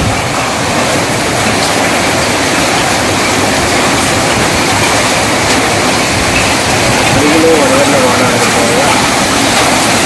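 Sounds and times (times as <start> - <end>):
gusty wind: 0.0 - 10.0
heavy rain roaring: 0.0 - 10.0.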